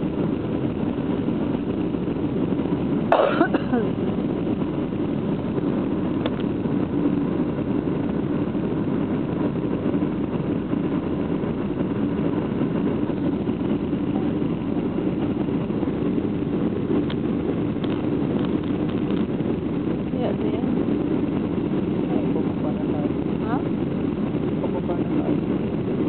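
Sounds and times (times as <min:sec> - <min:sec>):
jet engines and rushing airflow: 0:00.0 - 0:26.0.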